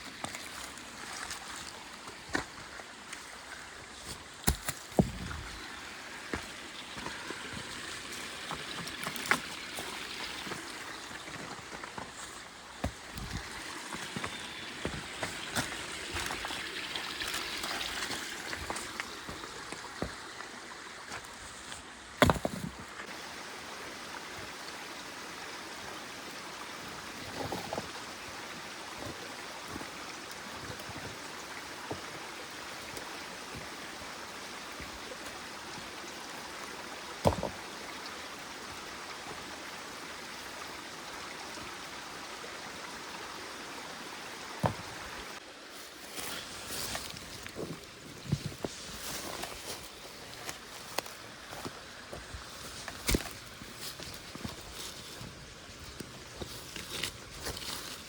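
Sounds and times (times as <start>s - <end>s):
small stream running: 0.0s - 58.0s.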